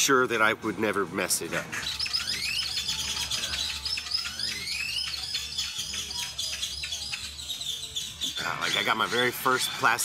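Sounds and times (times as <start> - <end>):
birds chirping: 1.2 - 10.0.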